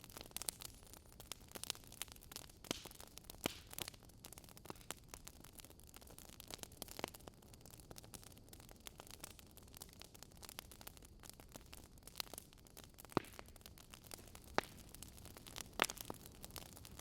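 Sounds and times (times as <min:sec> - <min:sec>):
fire popping and snapping: 0:00.0 - 0:17.0
wood fire hissing: 0:00.0 - 0:17.0.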